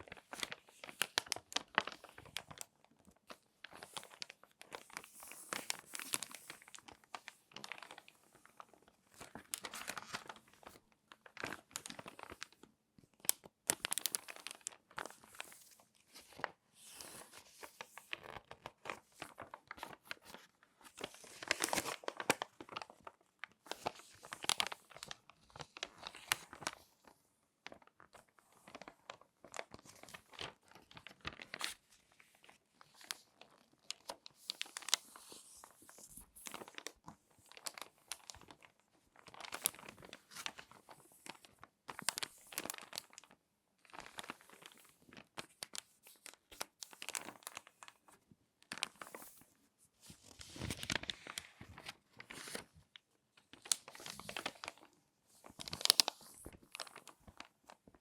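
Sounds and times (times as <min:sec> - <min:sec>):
magazine pages crinkling: 0:00.1 - 0:12.6, 0:13.2 - 0:58.0.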